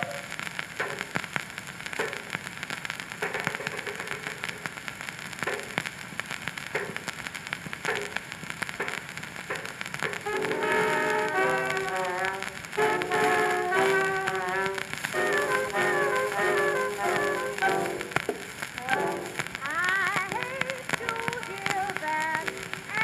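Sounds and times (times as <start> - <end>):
record crackle and hiss: 0.0 - 23.0
sharp record clicks: 0.0 - 23.0.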